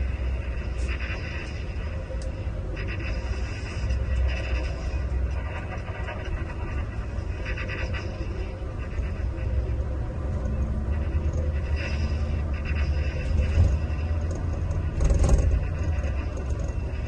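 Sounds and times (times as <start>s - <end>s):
coach engine rumble: 0.0s - 17.0s.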